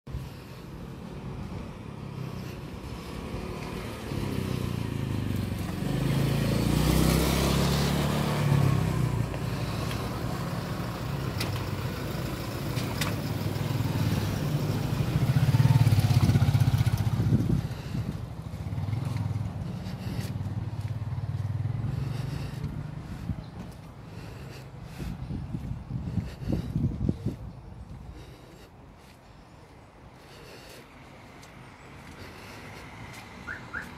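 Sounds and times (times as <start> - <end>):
vehicle engines running: 0.1 - 33.9
vehicle passing close by: 0.2 - 28.7, 30.2 - 33.9.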